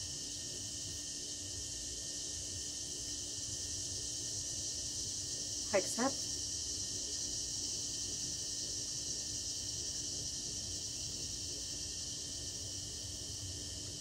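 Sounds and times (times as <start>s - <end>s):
chorus of insects: 0.0s - 14.0s.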